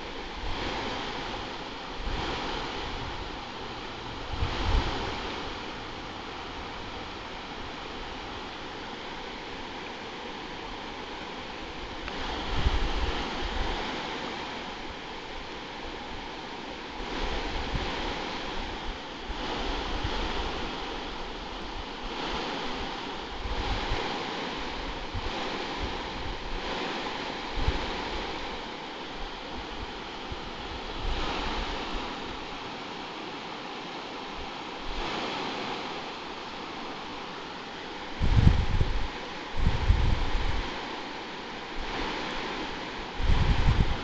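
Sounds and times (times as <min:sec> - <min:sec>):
wind buffeting microphone: 0:00.0 - 0:33.1, 0:34.2 - 0:44.0
river rushing over rocks: 0:00.0 - 0:44.0.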